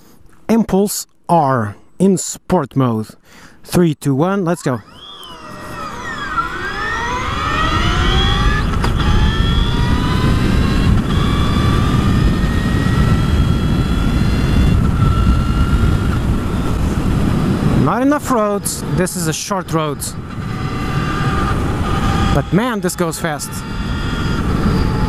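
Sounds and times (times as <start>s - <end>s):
electric motorcycle motor whine: 4.5s - 25.0s
wind noise on microphone: 4.8s - 25.0s.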